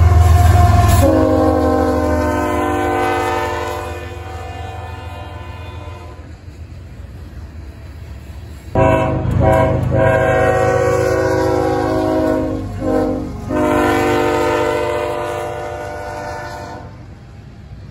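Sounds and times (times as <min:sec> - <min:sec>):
locomotive air horn chord: 0:00.0 - 0:06.3, 0:08.8 - 0:17.0
locomotives rumbling past: 0:00.0 - 0:17.9.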